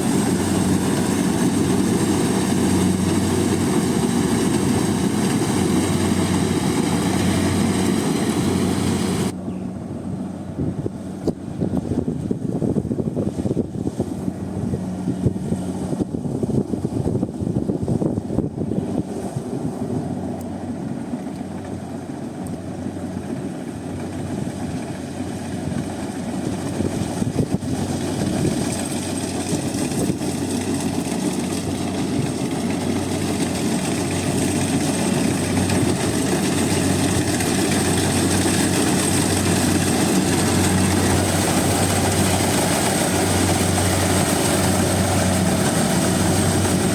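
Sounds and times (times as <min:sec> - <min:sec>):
combine harvester engine hum: 0:00.0 - 0:46.9.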